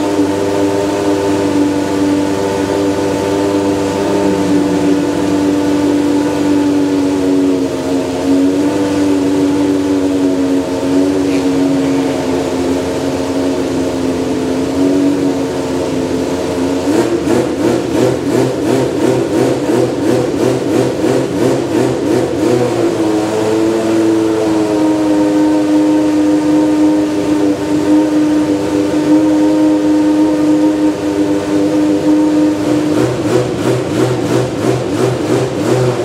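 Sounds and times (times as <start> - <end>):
racing car engine revving and idling: 0.0 - 36.0.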